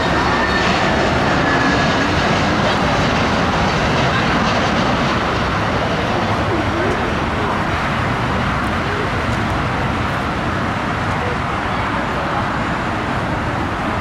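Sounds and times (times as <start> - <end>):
jet airliner roar: 0.0 - 14.0.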